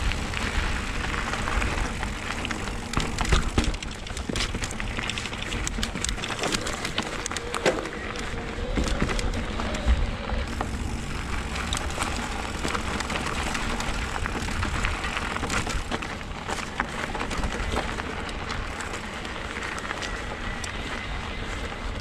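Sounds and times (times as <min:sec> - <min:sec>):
crackles and clicks: 0:00.0 - 0:22.0
wind rumbling on microphone: 0:00.0 - 0:22.0.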